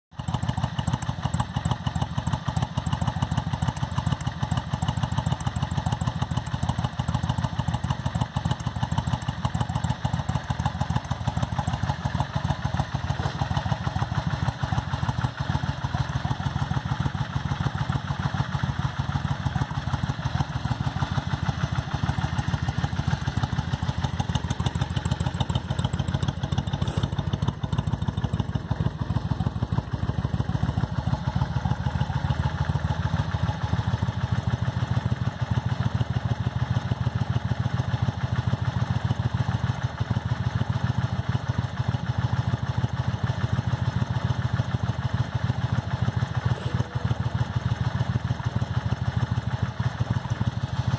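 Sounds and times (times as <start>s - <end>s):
motorcycle engine idling: 0.1s - 50.9s.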